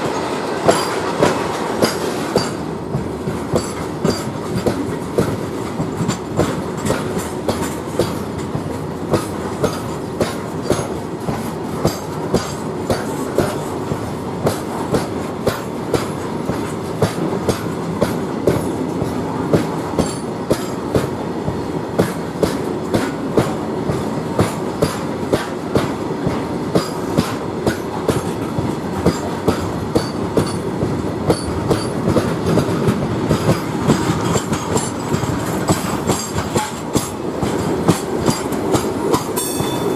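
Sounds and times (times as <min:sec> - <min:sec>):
freight train rumble: 0:00.0 - 0:39.9
wagon wheels clacking on rail joints: 0:00.0 - 0:39.9.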